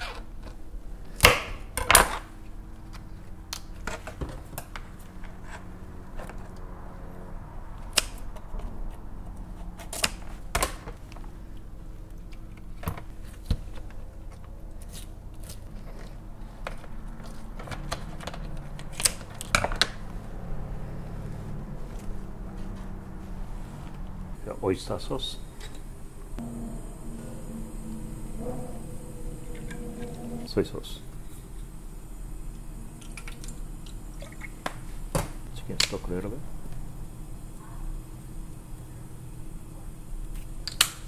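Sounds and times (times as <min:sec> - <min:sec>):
low room hum: 0:00.0 - 0:41.0.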